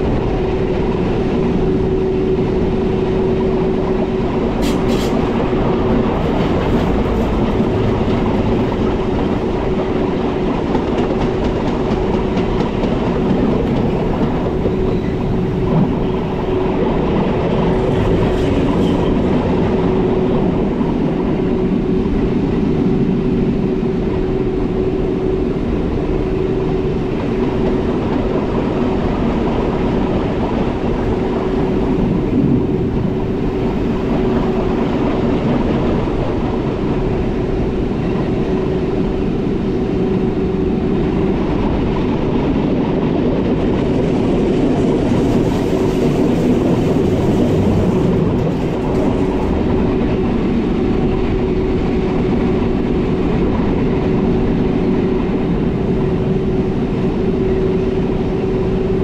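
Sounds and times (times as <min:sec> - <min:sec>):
constant hum: 0:00.0 - 0:59.0
train rolling noise: 0:00.0 - 0:59.0.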